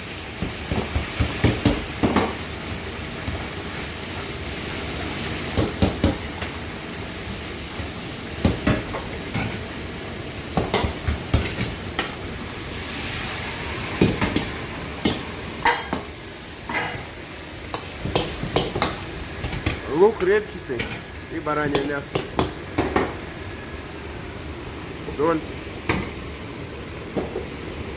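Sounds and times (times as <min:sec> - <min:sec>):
meat sizzling in a pan: 0:00.0 - 0:27.9.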